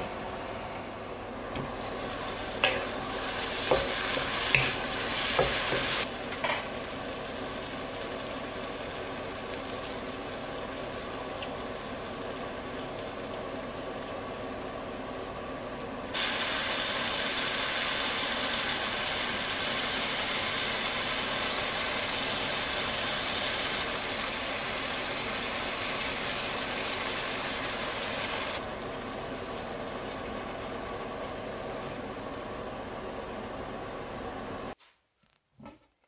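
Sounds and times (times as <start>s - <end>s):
stir-fry sizzling in a wok: 0.0s - 34.9s.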